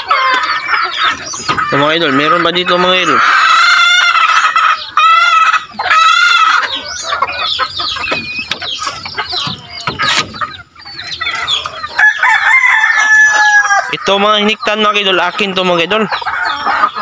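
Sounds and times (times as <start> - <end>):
chickens clucking: 0.0 - 17.0
chickens drawn-out calls: 0.0 - 17.0.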